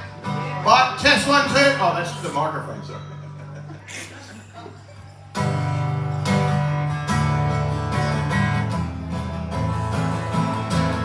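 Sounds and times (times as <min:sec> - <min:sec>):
guitar strumming chords: 0:00.0 - 0:03.7, 0:05.1 - 0:11.0.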